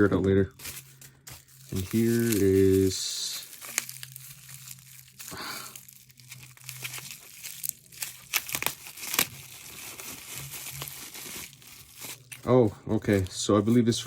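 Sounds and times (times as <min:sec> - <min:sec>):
plastic packaging crinkling: 0:00.5 - 0:13.8.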